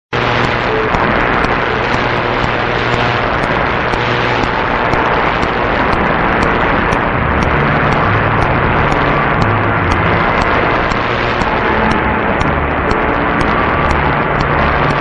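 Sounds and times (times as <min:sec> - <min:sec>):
faint low radio tones: 0:00.1 - 0:15.0
radio static hiss: 0:00.1 - 0:15.0.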